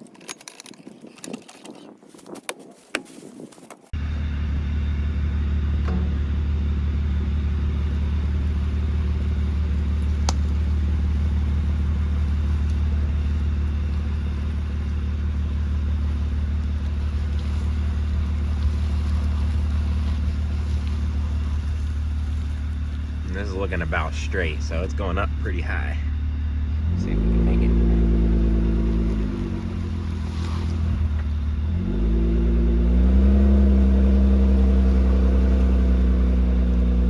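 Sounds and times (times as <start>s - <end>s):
road noise: 3.7s - 37.0s
car engine droning: 3.9s - 37.0s.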